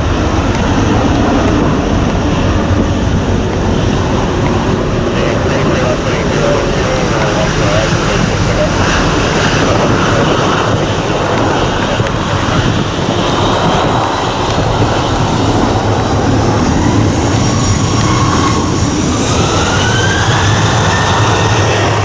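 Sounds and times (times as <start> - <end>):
jet airliner engines whining: 0.0 - 22.0.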